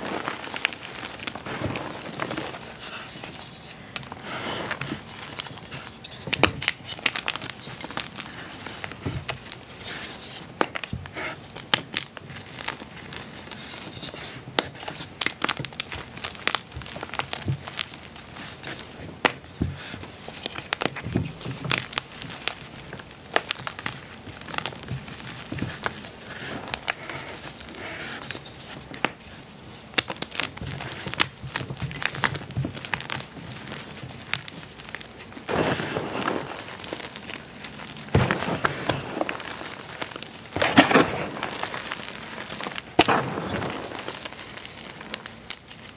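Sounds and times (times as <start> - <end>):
chalk crumbs falling: 0.0 - 45.9
chalk crunching and snapping: 0.0 - 45.9.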